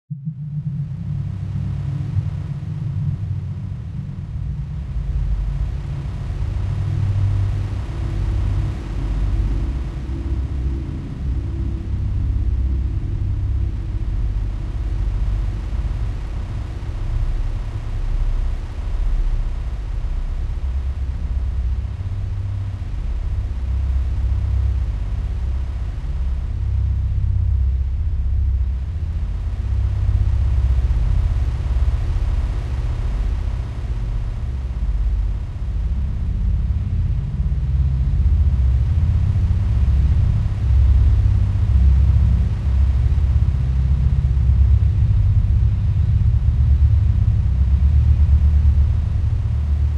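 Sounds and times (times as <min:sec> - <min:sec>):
deep rumbling drone: 0:00.1 - 0:49.9.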